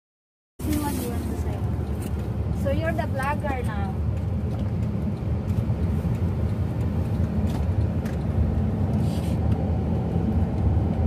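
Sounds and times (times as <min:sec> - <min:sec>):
car road and engine rumble: 0:00.6 - 0:11.0.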